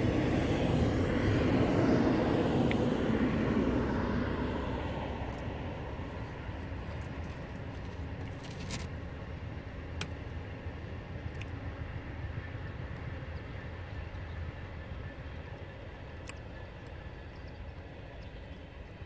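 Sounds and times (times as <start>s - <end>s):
distant train rumbling past: 0.0s - 19.0s.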